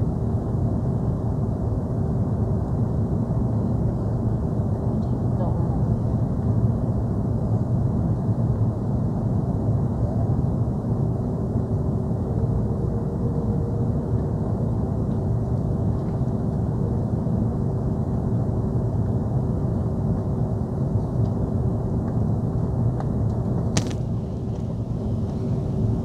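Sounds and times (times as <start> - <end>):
airliner cabin engine rumble: 0.0 - 26.0
faint steady hum: 0.0 - 26.0.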